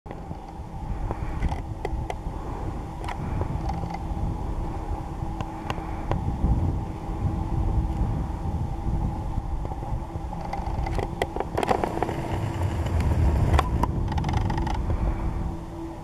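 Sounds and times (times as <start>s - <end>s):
steady low hum: 0.1s - 16.0s
wind rumble on microphone: 0.1s - 16.0s.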